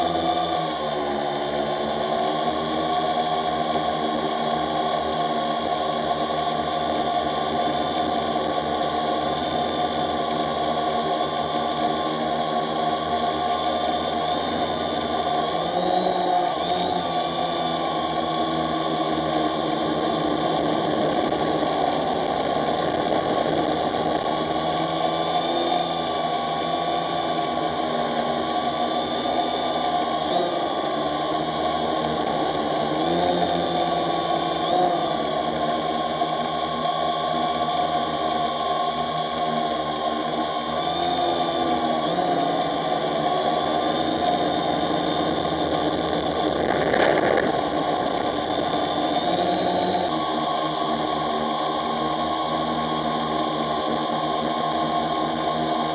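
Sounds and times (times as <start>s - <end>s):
drone propellers whining: 0.0s - 55.9s.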